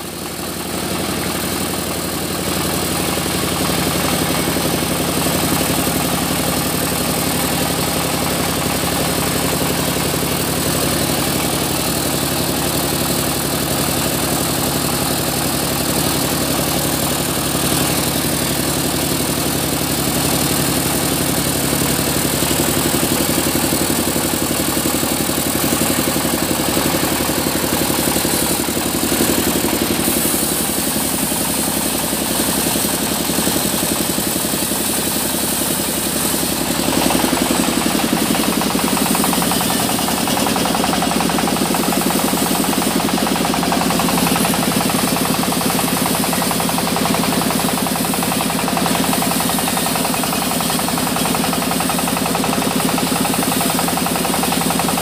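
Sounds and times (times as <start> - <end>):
sawmill engine droning: 0.0 - 55.0.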